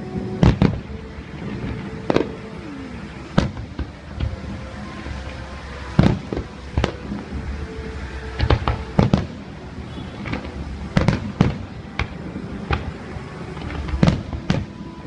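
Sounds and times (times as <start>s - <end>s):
fireworks bursting: 0.0s - 15.0s
steady rumble: 0.0s - 15.0s.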